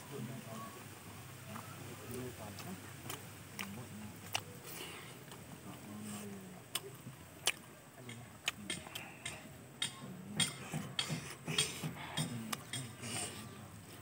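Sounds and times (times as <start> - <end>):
chewing mouth sounds: 1.5 - 14.0.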